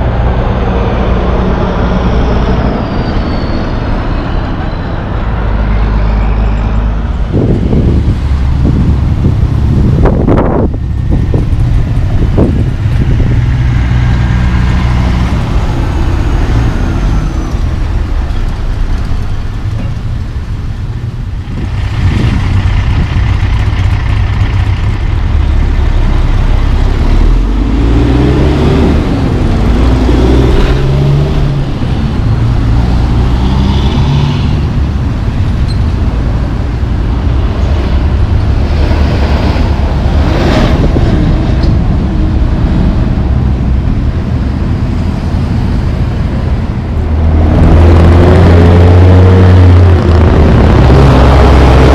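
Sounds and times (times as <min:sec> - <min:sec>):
diesel engines running: 0:00.0 - 0:51.9
tyres rolling on pavement: 0:00.0 - 0:51.9.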